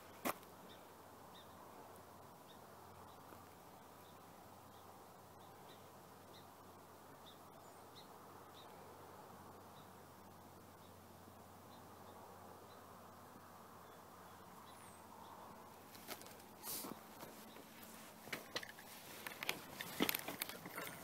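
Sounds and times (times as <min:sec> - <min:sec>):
small bird chirping faintly: 0:00.0 - 0:21.0.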